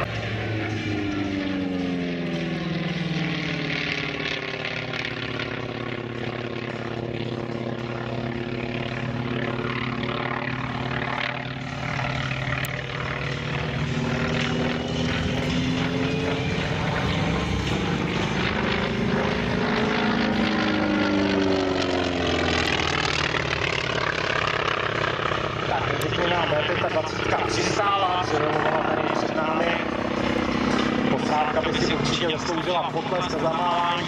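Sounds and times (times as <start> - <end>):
propeller plane engines running: 0.0 - 34.0.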